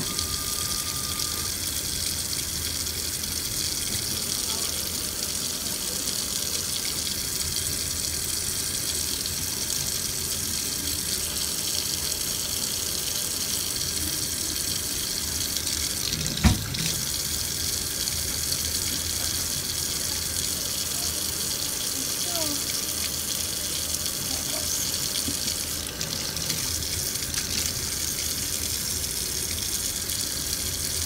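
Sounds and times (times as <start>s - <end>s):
tap water running into sink: 0.0s - 31.0s.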